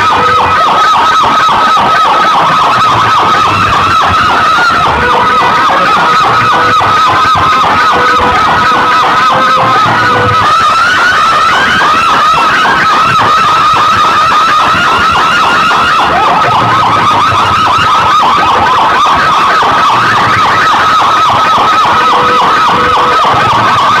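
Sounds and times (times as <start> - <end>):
warbling electronic siren effect: 0.0 - 24.0.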